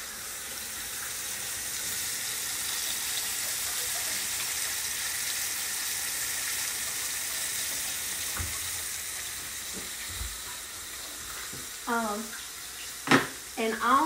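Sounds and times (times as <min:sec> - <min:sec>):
meat frying in hot oil: 0:00.0 - 0:14.0.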